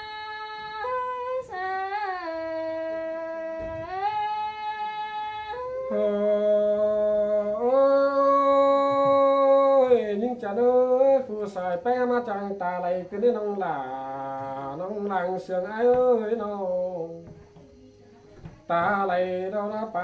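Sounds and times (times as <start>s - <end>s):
person singing unaccompanied: 0.0s - 20.0s.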